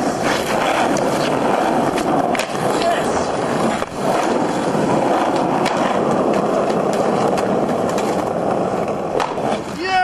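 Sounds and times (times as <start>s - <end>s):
skateboard wheels rolling on asphalt: 0.0s - 10.0s.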